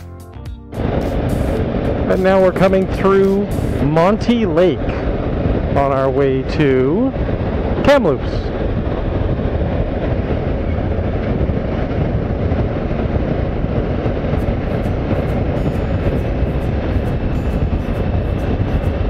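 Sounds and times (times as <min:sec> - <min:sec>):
wind rushing: 0:00.0 - 0:19.0.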